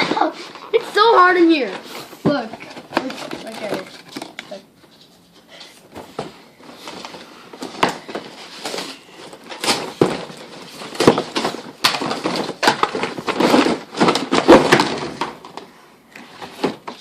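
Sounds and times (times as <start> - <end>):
packaging rustling and crackling: 1.6 - 5.2, 6.2 - 17.0.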